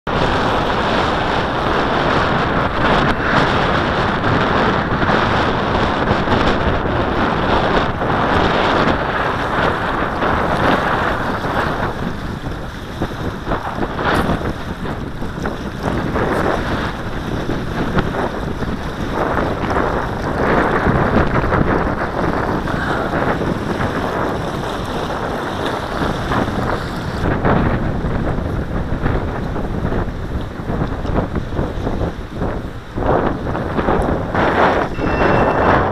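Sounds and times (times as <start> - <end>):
strong wind on microphone: 0.0 - 35.9.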